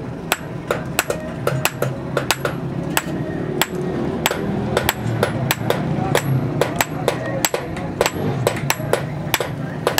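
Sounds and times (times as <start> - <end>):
hammer striking steel on anvil: 0.3 - 9.9.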